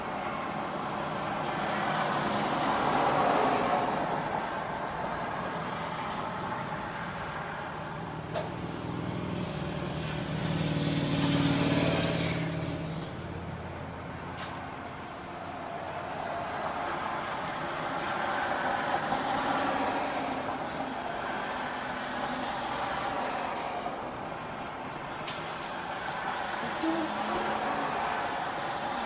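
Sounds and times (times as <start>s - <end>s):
traffic passing: 0.0s - 29.0s.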